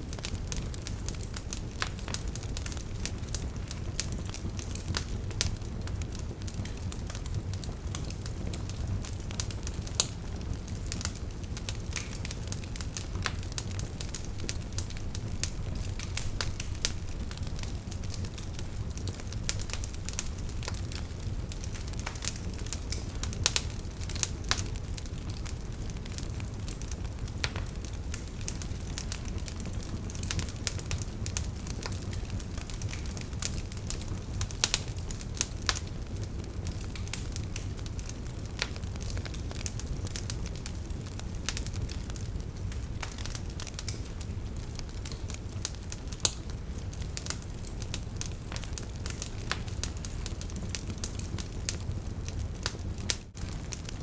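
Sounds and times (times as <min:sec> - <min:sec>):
firewood crackling and popping: 0:00.0 - 0:54.0
low rumble of flames: 0:00.0 - 0:54.0.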